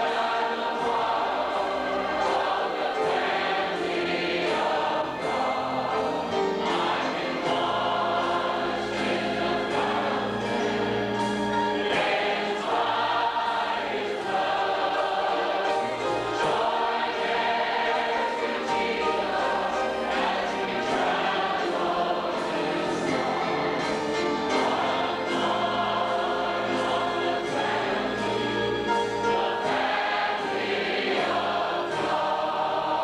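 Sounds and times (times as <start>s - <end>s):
congregation singing a hymn: 0.0s - 33.0s
musical accompaniment: 0.0s - 33.0s.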